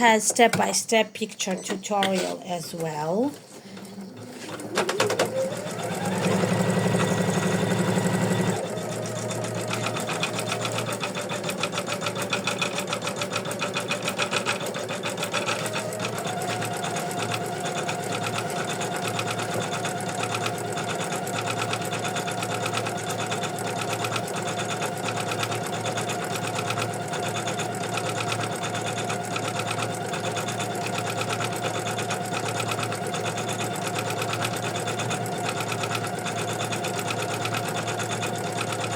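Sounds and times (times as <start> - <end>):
embroidery machine stitching: 1.6 - 38.9.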